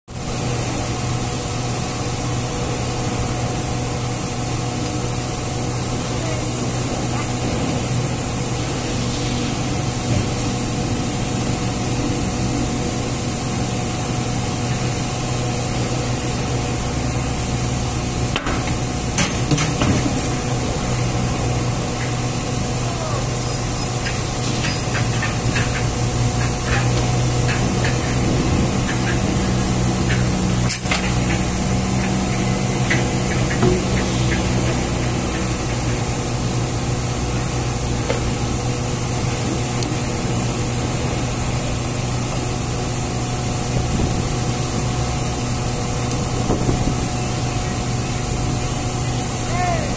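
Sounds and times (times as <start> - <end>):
machinery hum: 0.1 - 49.9.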